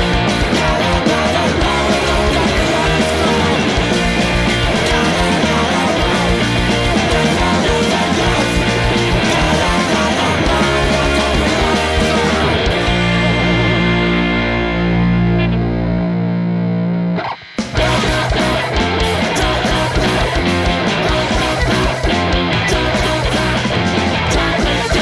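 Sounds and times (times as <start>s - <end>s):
steady drum beat: 0.0s - 14.4s, 17.6s - 25.0s
electric guitar: 0.0s - 25.0s.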